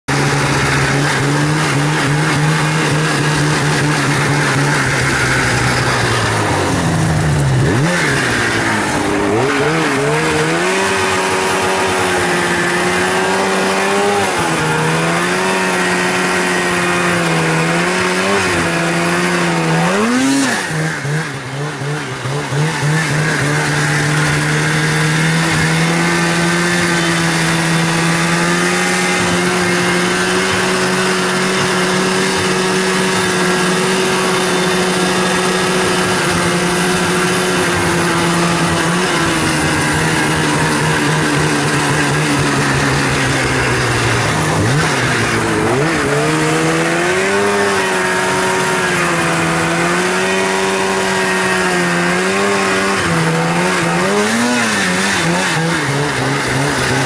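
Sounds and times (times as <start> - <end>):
snowmobile engine high revs: 0.0 - 57.0
track spinning throwing snow: 0.1 - 57.0.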